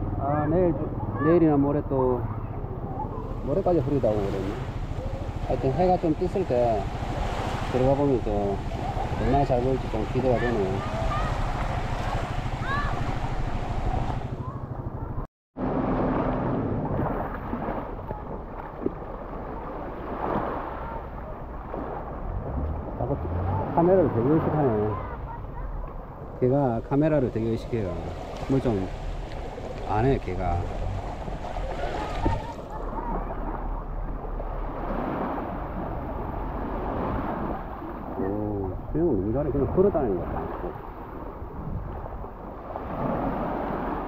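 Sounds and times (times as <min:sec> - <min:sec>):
small waves lapping on shore: 0:00.2 - 0:14.6, 0:15.6 - 0:44.0
wind rumbling on microphone: 0:02.1 - 0:44.0.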